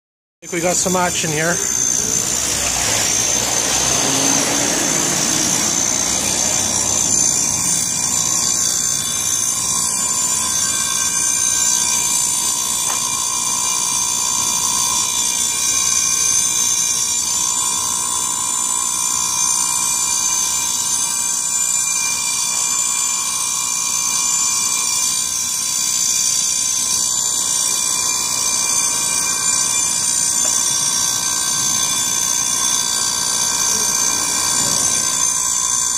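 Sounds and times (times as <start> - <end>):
electronic alarm tone: 0.4 - 35.9
shrill high ringing: 0.4 - 35.9.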